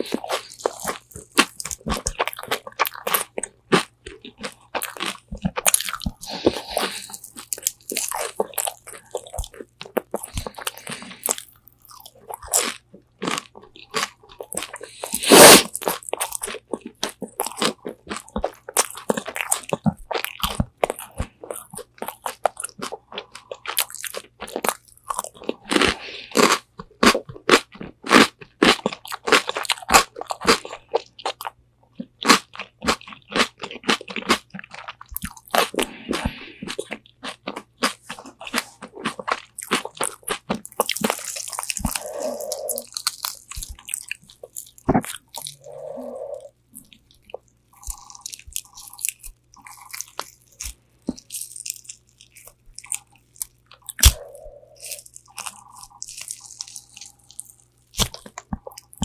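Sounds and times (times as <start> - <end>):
crunchy chewing: 0.0 - 59.0.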